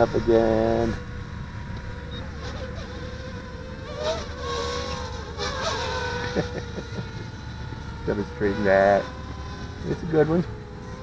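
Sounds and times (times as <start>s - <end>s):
quadcopter motors buzzing: 0.0s - 11.0s.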